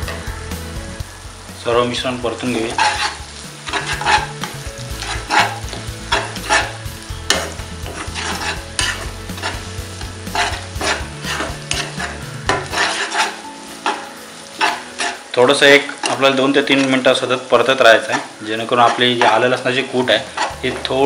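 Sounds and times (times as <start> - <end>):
onions sizzling in hot oil: 0.0 - 21.0
spatula scraping pan: 2.4 - 21.0.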